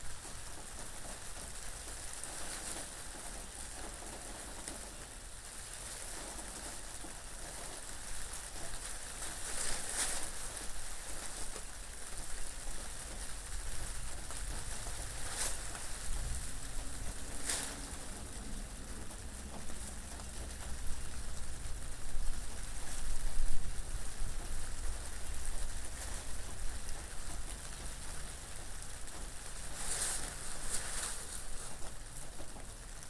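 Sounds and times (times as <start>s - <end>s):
steady rain falling: 0.0s - 33.0s
wind: 0.0s - 33.0s.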